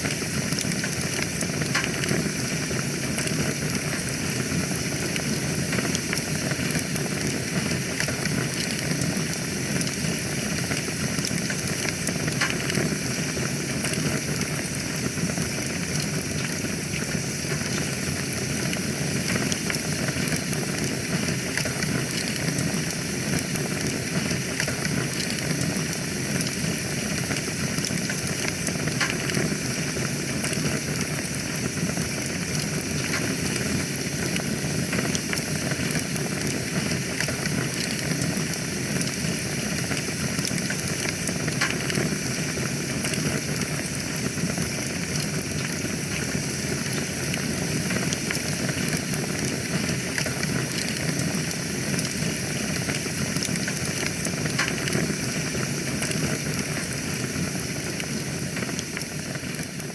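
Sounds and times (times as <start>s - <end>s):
fire crackling and popping: 0.0s - 59.9s
fire hissing and rumbling: 0.0s - 59.9s.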